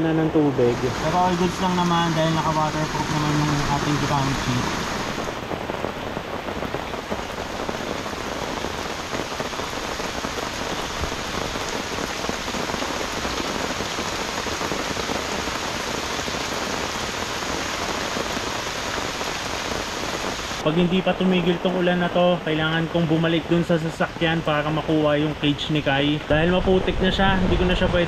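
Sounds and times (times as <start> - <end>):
heavy rain on tent: 0.0 - 28.0.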